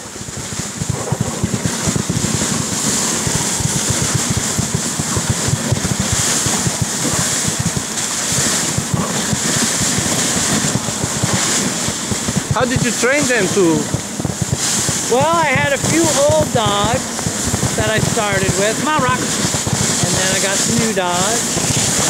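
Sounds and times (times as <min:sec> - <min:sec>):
sled runners hissing on snow: 0:00.0 - 0:22.0
wind buffeting microphone: 0:00.0 - 0:22.0.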